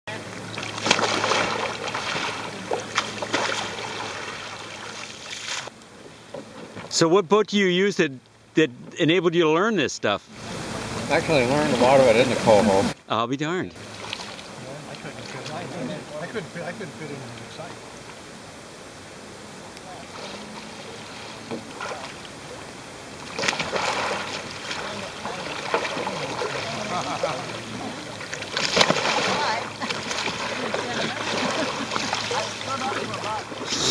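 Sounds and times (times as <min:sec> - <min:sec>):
water splashing around kayak: 0:00.1 - 0:07.0, 0:10.3 - 0:13.0, 0:13.8 - 0:33.9.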